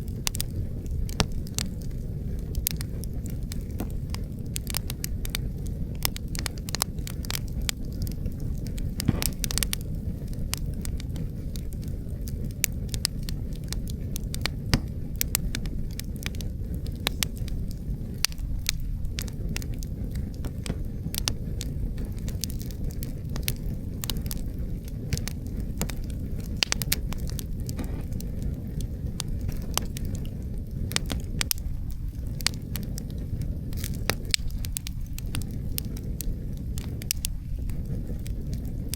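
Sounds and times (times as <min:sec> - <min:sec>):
low rumble of wind: 0:00.0 - 0:38.9
wood fire crackling and popping: 0:00.0 - 0:38.9.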